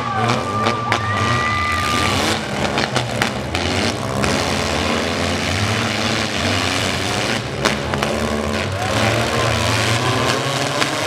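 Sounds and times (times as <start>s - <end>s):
car engines revving hard: 0.0s - 11.0s
cars ramming: 0.0s - 11.0s.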